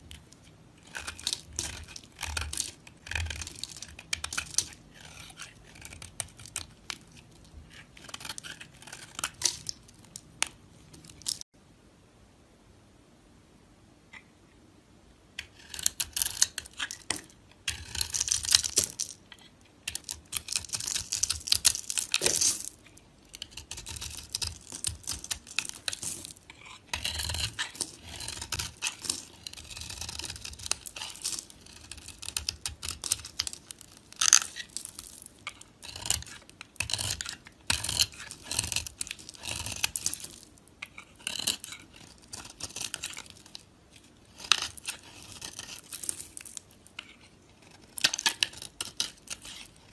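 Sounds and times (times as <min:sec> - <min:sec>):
knife carving dry soap: 0:00.0 - 0:11.5, 0:15.4 - 0:49.9.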